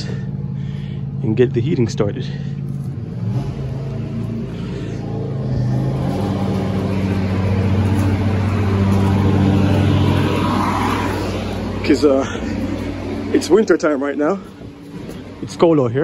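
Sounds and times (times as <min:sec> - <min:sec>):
steady motor hum: 0:00.0 - 0:15.7.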